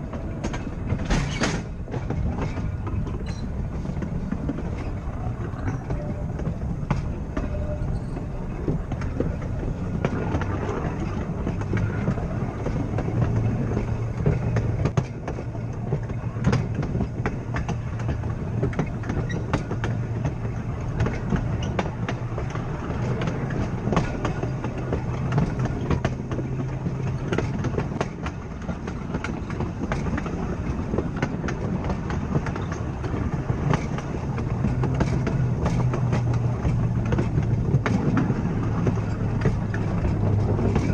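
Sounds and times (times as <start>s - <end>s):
tram wheels rumbling: 0.0s - 40.9s
wheels clacking over rail joints: 0.0s - 40.9s.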